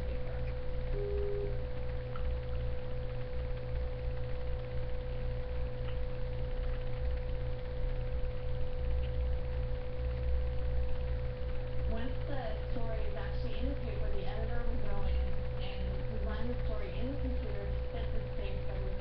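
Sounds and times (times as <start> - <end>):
constant held tone: 0.0 - 19.0
low electrical hum: 0.0 - 19.0.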